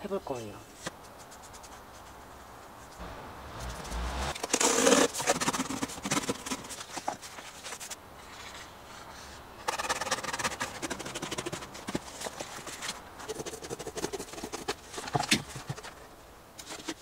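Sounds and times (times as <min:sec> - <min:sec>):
cardboard rustling and scraping: 0:00.6 - 0:17.0.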